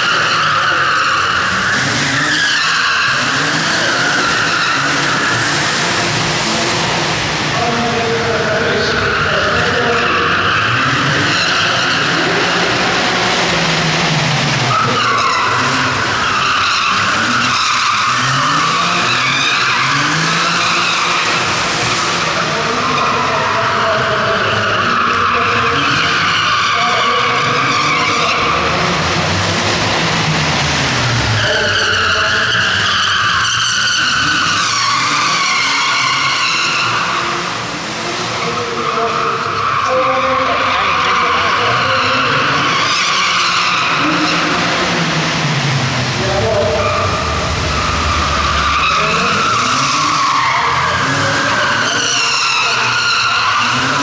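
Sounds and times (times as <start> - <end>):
race car engines revving: 0.0 - 54.0
tyres screeching: 0.0 - 54.0.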